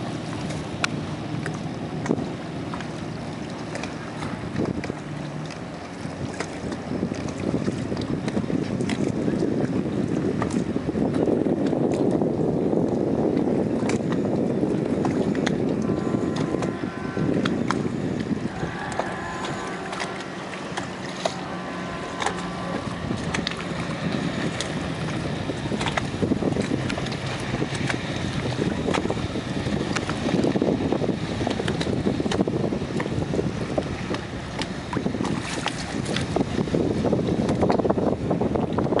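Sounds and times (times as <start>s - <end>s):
boat engine passing: 0.0s - 39.0s
wind buffeting microphone: 0.0s - 39.0s.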